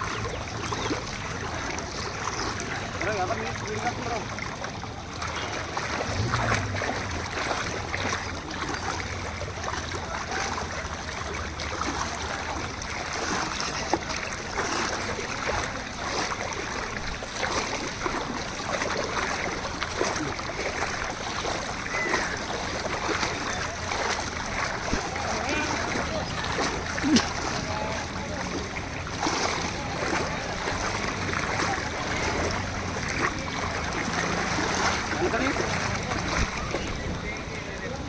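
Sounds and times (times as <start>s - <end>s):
floodwater rushing and splashing: 0.0s - 38.0s.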